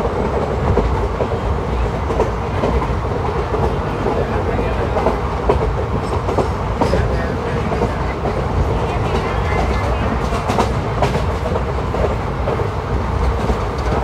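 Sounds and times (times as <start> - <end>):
train wheels clacking: 0.0 - 14.0
train wheels rumbling on rails: 0.0 - 14.0.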